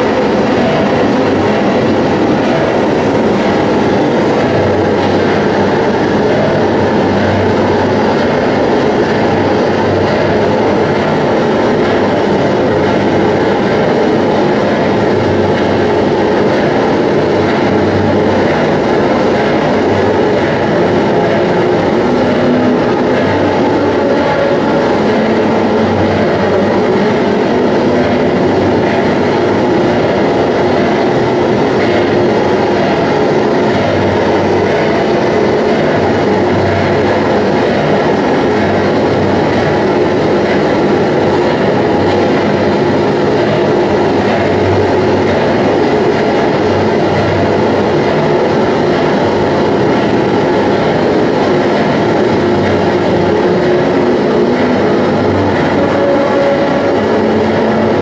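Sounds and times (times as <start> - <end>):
grinding electronic noise: 0.0 - 58.0
low hum: 0.0 - 58.0.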